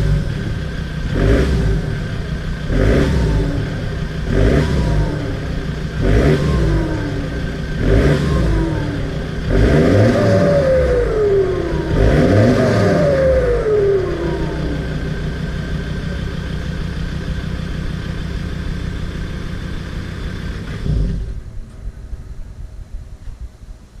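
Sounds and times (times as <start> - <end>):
pickup engine revving and idling: 0.0 - 21.6.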